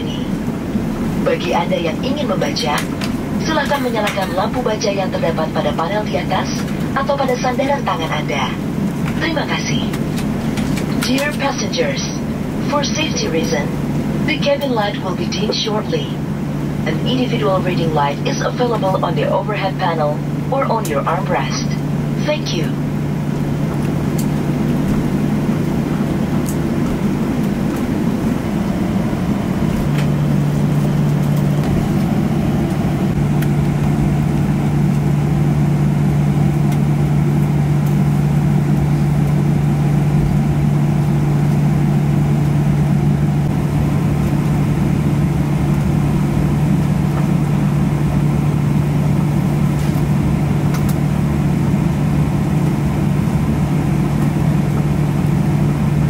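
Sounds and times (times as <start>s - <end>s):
airplane cabin hum: 0.0s - 56.0s.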